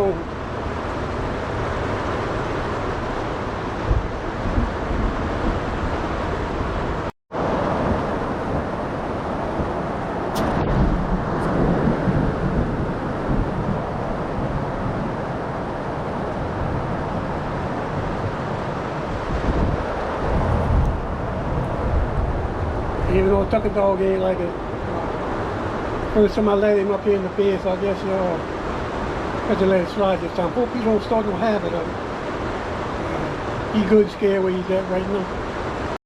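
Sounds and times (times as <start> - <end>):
heavy rain: 0.0 - 36.0
wind buffeting microphone: 0.0 - 36.0.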